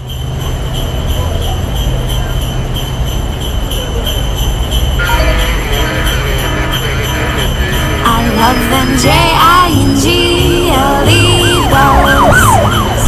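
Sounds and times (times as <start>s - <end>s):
jingle bells shaking: 0.0s - 13.0s.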